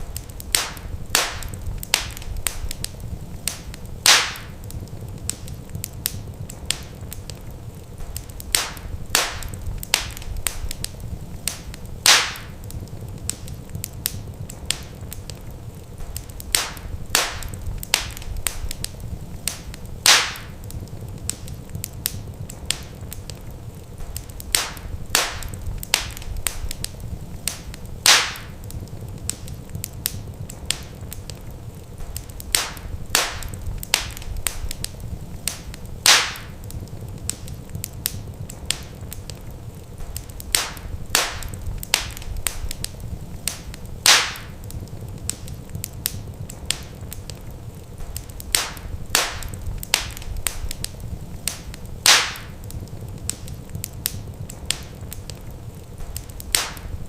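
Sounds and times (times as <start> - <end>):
low steady rumble: 0.0 - 57.0
wood fire crackling: 0.0 - 57.0.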